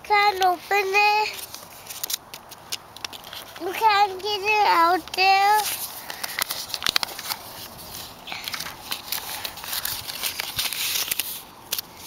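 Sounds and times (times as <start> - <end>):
paper card rustling: 0.3 - 12.0.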